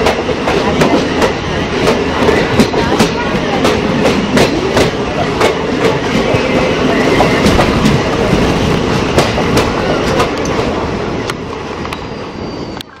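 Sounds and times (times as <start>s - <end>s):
passing train rushing: 0.0s - 13.0s.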